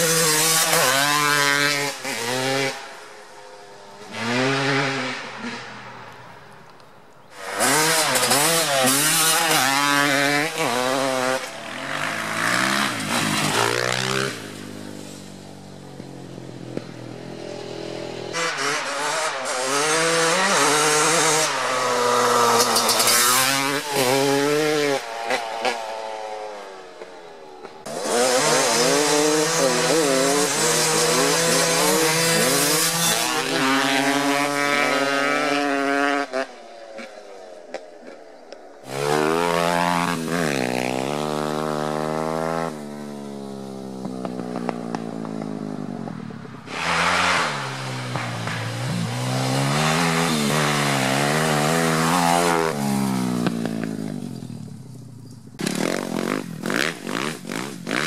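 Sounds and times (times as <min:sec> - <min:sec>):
dirt bike engine revving: 0:00.0 - 0:06.4, 0:07.3 - 0:38.2, 0:38.8 - 0:58.0.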